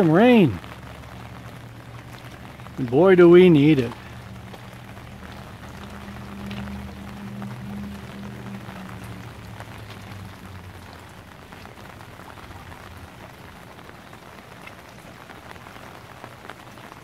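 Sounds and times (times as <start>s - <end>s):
rain falling on a pond: 0.0s - 17.0s.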